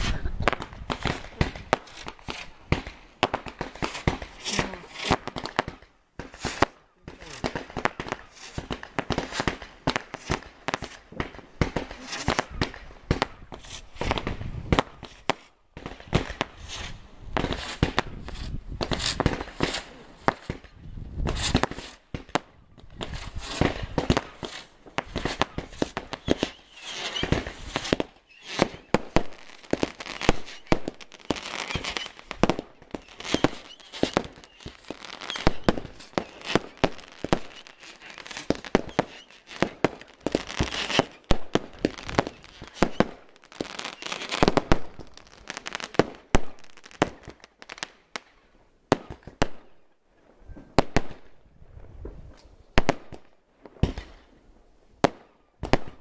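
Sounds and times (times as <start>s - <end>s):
fireworks bursting bangs: 0.0s - 48.3s, 48.9s - 49.8s, 50.6s - 54.4s, 55.0s - 56.0s
firework stars crackling: 0.0s - 49.8s, 50.7s - 54.4s.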